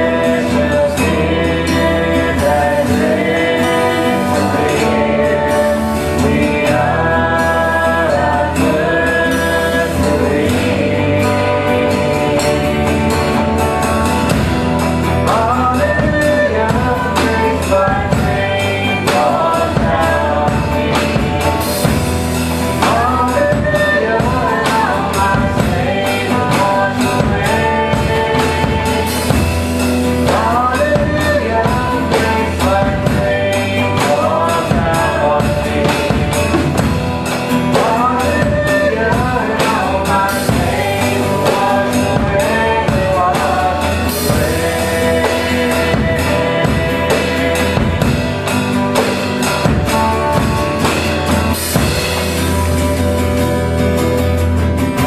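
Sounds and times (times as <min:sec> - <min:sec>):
person singing: 0:00.0 - 0:53.4
rock band playing: 0:00.0 - 0:55.0.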